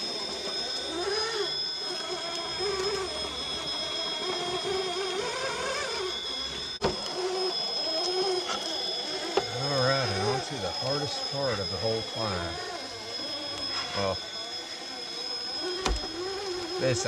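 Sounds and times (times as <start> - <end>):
toy car motor whining: 0.0 - 17.0.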